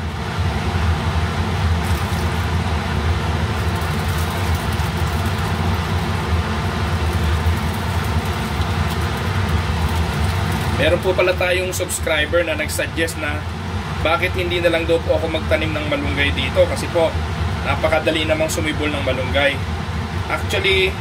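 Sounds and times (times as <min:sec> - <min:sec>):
motor or fan humming: 0:00.0 - 0:21.0.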